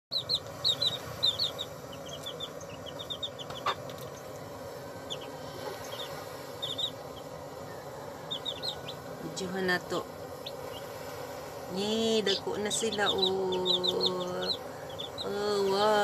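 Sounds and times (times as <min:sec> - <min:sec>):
chicks peeping: 0:00.1 - 0:10.9, 0:11.7 - 0:16.0.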